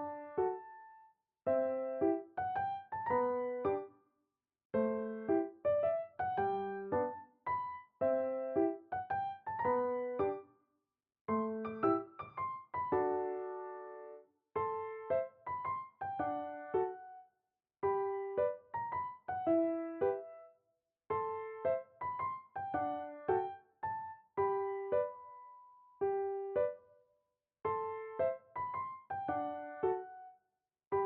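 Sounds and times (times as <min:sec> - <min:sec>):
soft piano melody: 0:00.0 - 0:04.0, 0:04.8 - 0:10.5, 0:11.3 - 0:27.0, 0:27.6 - 0:31.0.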